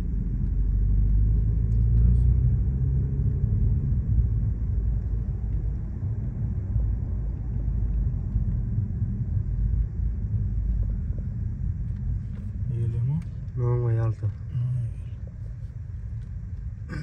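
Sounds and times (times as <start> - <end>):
road and engine rumble in car: 0.0 - 17.0.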